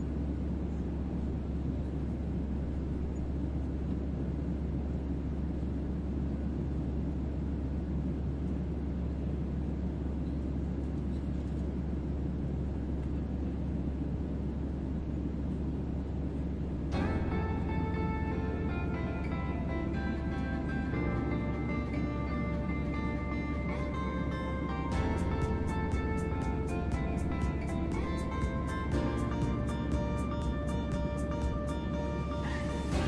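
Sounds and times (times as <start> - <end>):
airliner cabin low rumble: 0.0 - 33.0.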